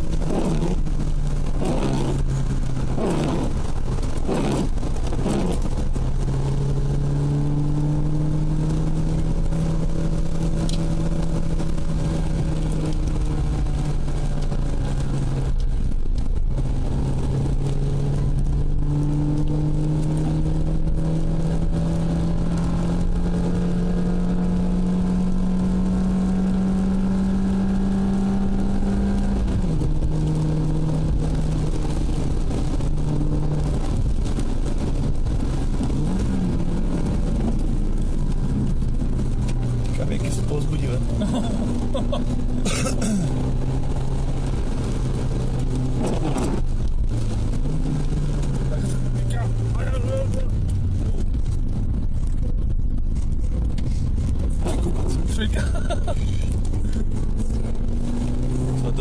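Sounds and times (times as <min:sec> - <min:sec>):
car engine running under load: 0:00.0 - 0:59.0
tyre and road noise: 0:00.0 - 0:59.0.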